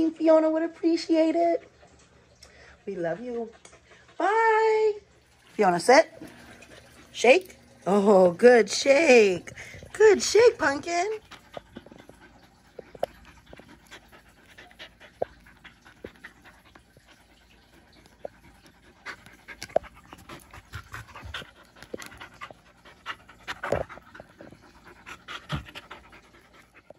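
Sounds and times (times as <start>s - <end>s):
puppy panting: 2.9s - 4.7s, 5.9s - 8.5s, 9.1s - 26.9s.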